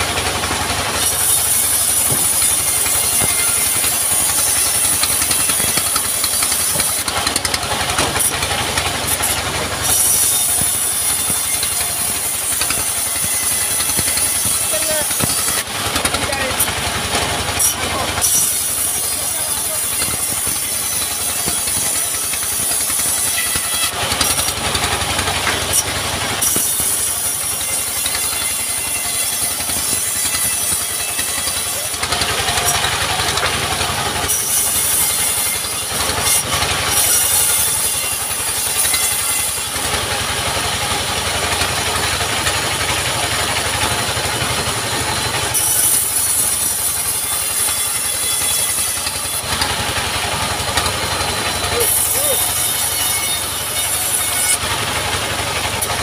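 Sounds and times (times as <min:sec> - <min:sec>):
band saw running: 0:00.0 - 0:56.0
saw cutting log: 0:00.0 - 0:56.0.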